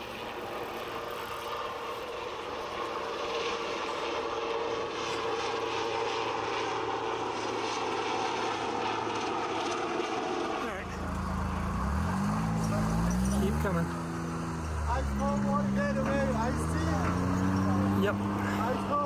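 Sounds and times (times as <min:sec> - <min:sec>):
helicopter flying by: 0:00.0 - 0:19.0.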